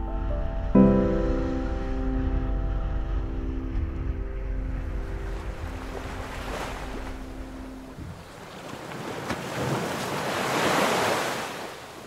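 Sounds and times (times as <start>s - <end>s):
boat engine humming: 0.0s - 10.2s
wind: 0.0s - 12.0s
waves: 0.1s - 12.0s.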